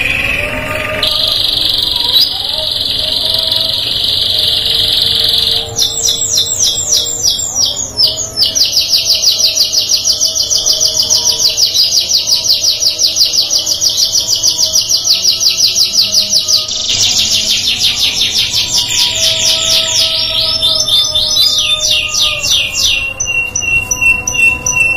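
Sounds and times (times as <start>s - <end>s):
canary singing: 0.0s - 24.9s.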